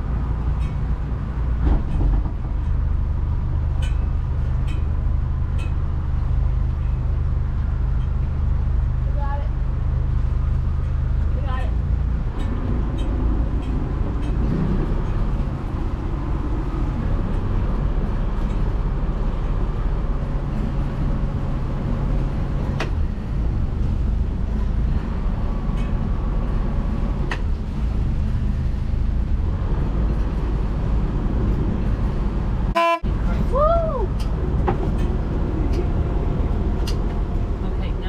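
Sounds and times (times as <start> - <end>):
diesel engine rumbling: 0.0 - 38.0.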